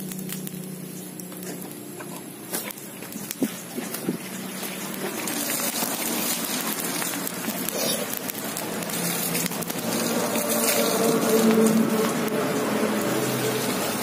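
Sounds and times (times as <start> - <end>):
fire crackling and hissing: 0.0 - 14.0.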